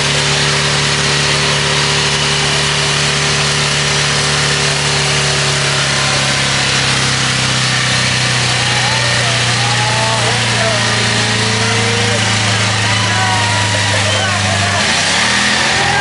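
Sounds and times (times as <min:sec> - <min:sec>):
engine at full throttle: 0:00.0 - 0:16.0.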